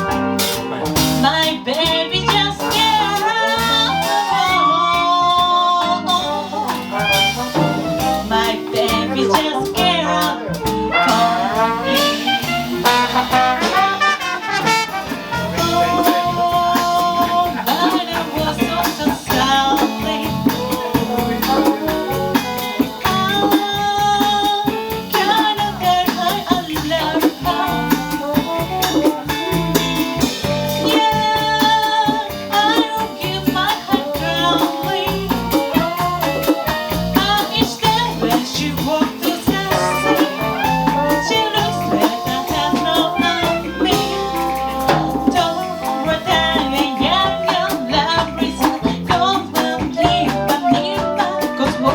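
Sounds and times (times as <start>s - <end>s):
jazz band playing: 0.0s - 51.9s.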